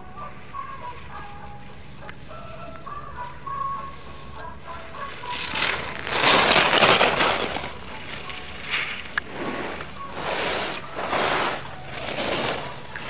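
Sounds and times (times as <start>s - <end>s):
skis scraping across packed snow: 2.1s - 13.0s.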